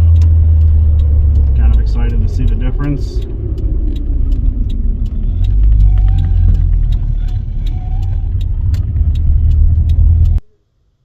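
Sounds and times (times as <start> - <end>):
road noise inside car cabin: 0.0 - 11.0.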